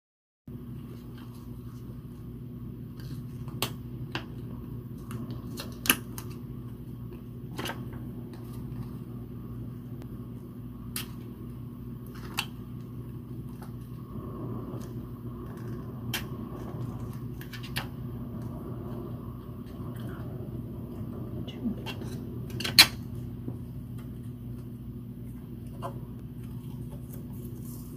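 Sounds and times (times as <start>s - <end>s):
low hum: 0.5s - 27.9s.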